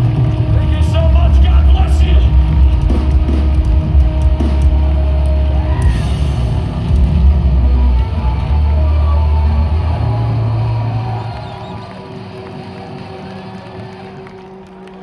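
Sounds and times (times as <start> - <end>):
heavy metal band playing: 0.0 - 14.3.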